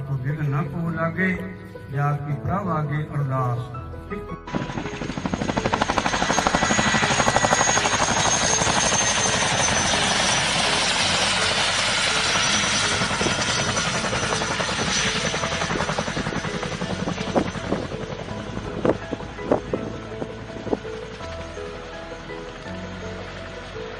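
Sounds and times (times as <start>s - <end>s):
helicopter rotor beating: 4.4s - 23.9s
high turbine whine: 4.4s - 23.9s.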